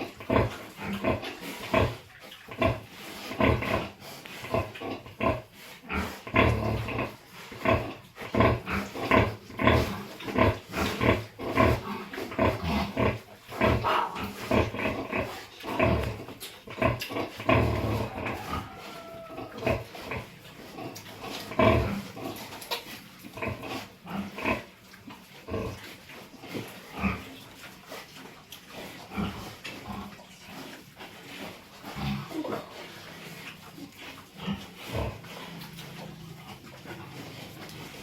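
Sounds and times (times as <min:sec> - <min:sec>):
pigs grunting: 0:00.0 - 0:38.0.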